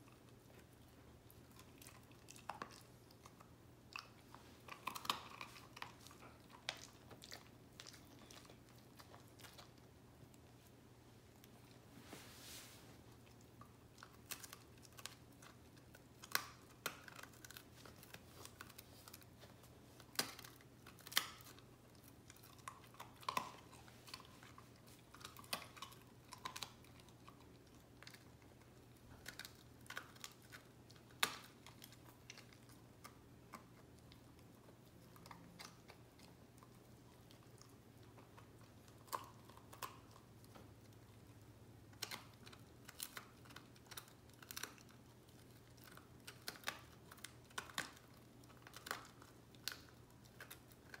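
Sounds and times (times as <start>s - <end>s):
dog crunching a biscuit: 0.0s - 11.8s, 13.1s - 51.0s.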